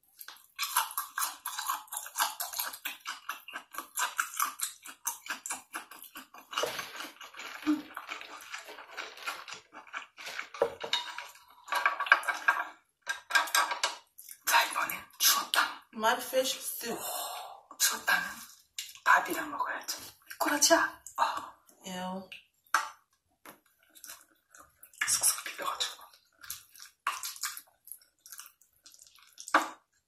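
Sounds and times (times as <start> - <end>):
chewing and crunching: 0.0 - 15.8, 21.0 - 30.0.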